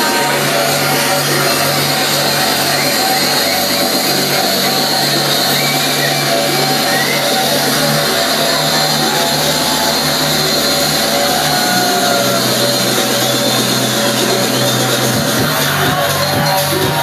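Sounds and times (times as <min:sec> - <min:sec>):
deep bass: 0:00.0 - 0:17.0
electronic dance music: 0:00.0 - 0:17.0.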